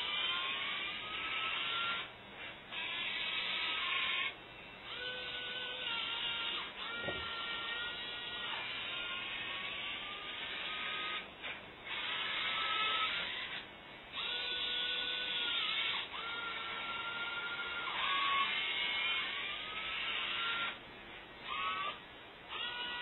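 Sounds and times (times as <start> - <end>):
servo motors whining: 0.0 - 2.1, 2.7 - 11.3, 11.9 - 13.6, 14.2 - 20.8, 21.4 - 23.0.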